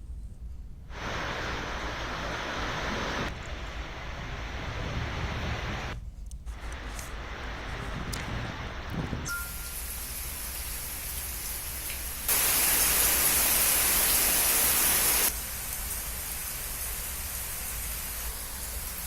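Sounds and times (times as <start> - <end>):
steady rain falling: 0.9 - 19.0.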